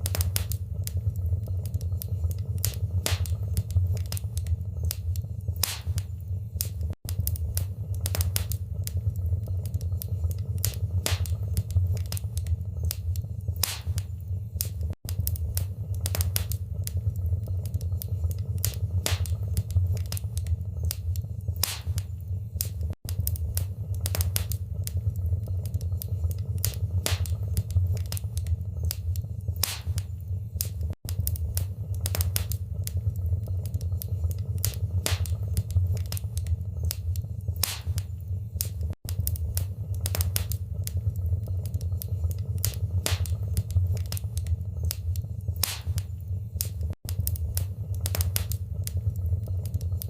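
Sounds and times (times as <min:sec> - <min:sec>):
low hum: 0:00.0 - 0:50.0
wood fire crackling: 0:00.0 - 0:50.0.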